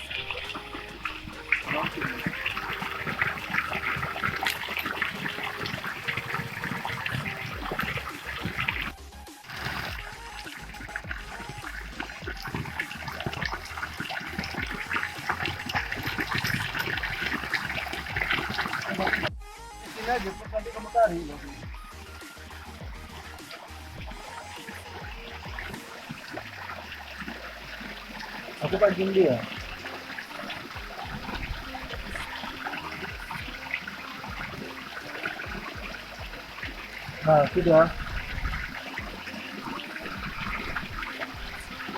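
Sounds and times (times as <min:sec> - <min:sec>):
water trickling and splashing: 0:00.0 - 0:41.9.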